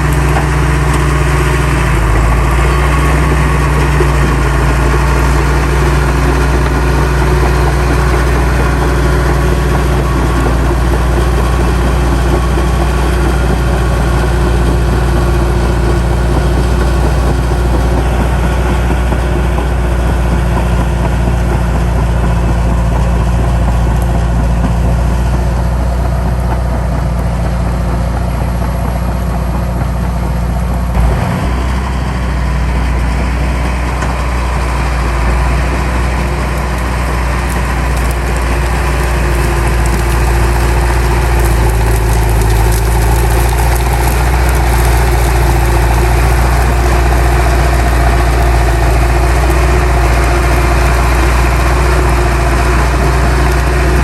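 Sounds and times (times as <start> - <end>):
heavy diesel engine running: 0.0 - 54.0
machinery knock and clatter: 0.0 - 54.0.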